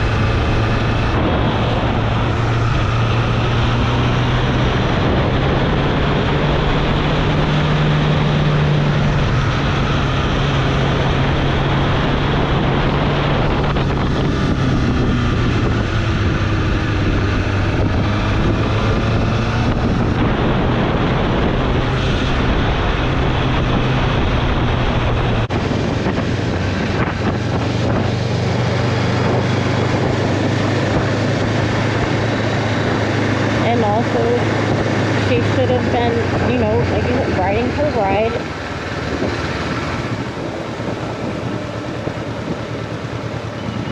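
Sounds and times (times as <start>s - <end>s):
motorcycle engine running: 0.0s - 43.9s
wind rush on microphone: 0.0s - 43.9s.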